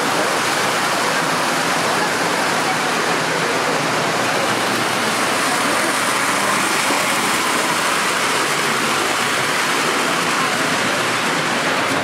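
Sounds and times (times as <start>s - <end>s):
model train wheels rumbling on rail: 0.0s - 12.0s.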